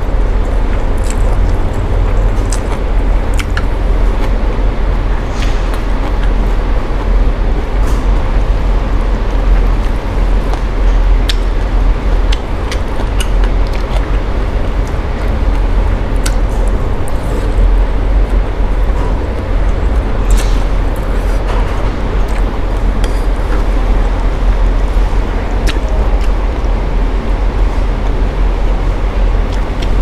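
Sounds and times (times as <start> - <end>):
low rumbling background noise: 0.0 - 30.0.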